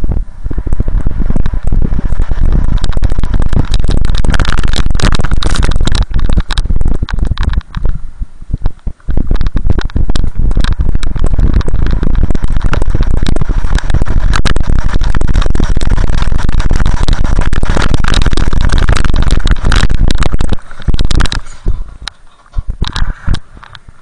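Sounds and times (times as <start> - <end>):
snowboard scraping over snow: 0.0 - 8.1, 8.7 - 24.0
wind buffeting microphone: 0.0 - 24.0.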